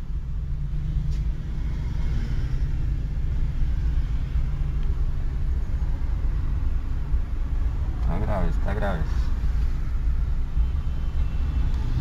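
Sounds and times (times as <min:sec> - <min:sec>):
idling vehicle engines: 0:00.0 - 0:12.0.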